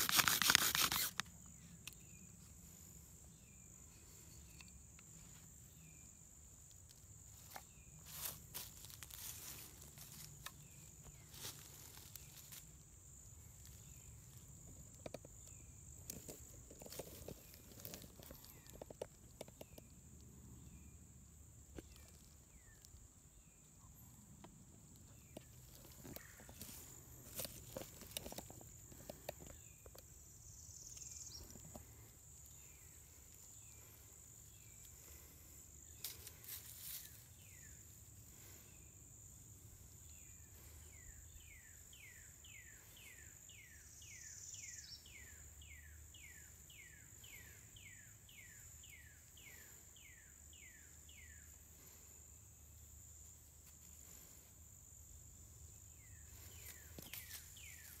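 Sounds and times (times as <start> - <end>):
high insect drone: 0.0 - 20.0, 20.6 - 58.0.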